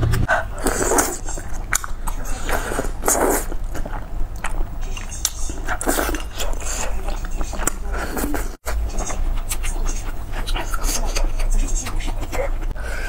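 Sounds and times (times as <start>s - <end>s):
slurping: 0.2s - 12.8s
wet chewing: 0.3s - 12.8s.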